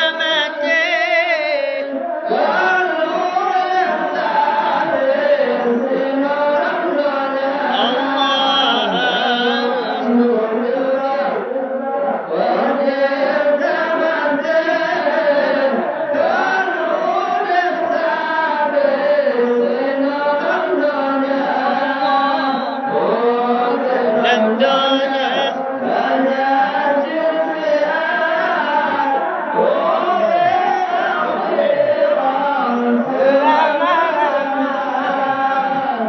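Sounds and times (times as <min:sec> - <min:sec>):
voices chanting drone: 0:00.0 - 0:11.5, 0:12.1 - 0:36.0.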